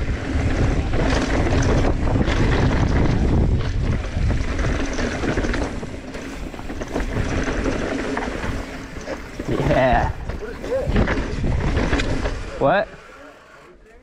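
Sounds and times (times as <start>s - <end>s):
wind rushing over microphone: 0.0s - 8.8s, 9.4s - 12.8s
bike knocks and rattles: 0.0s - 12.8s
bike tyre noise: 0.0s - 14.0s.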